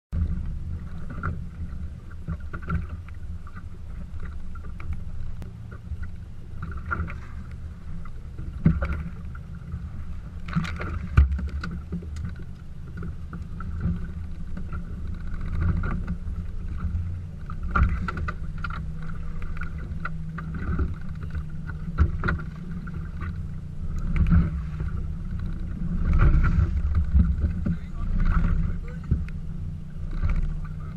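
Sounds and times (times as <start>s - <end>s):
water lapping against hull: 0.1s - 30.9s
wind: 0.1s - 30.9s.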